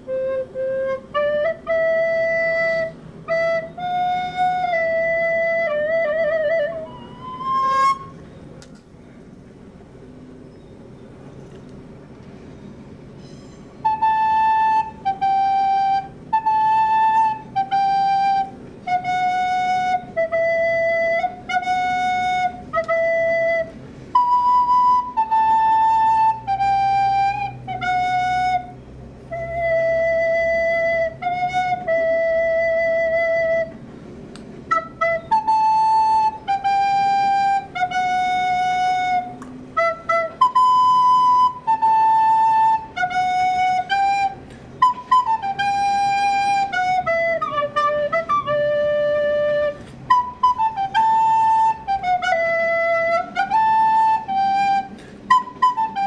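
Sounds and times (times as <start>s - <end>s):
recorder playing a melody: 0.0s - 8.3s, 13.2s - 33.8s, 34.7s - 56.0s.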